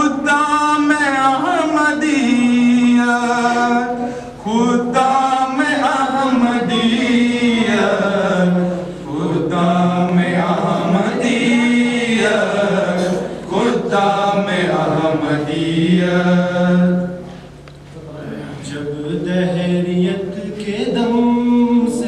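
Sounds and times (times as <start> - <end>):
young men singing together: 0.0 - 17.3, 18.5 - 22.0.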